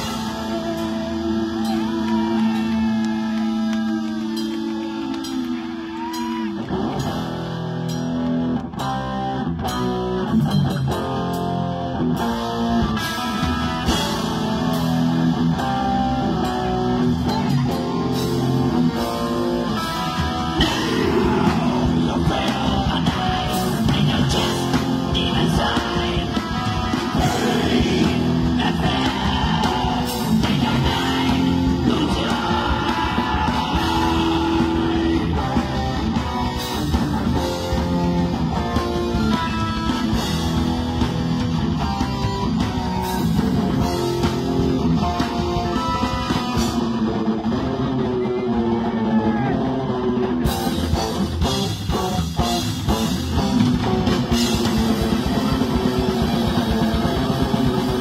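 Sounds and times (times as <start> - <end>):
drums: 0.0 - 58.0
metal band playing live: 0.0 - 58.0.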